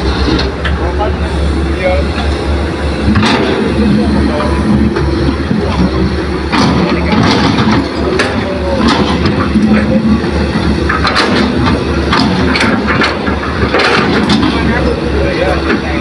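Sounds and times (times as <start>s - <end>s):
heavy diesel engine running: 0.0s - 16.0s
knocks and rattles: 3.1s - 16.0s.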